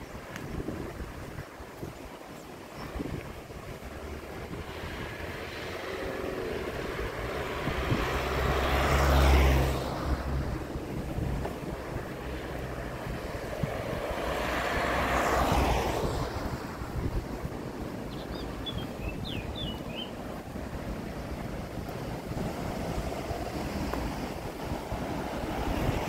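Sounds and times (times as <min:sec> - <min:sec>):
wind buffeting the microphone: 0:00.0 - 0:26.0
outdoor rushing noise: 0:02.9 - 0:26.0.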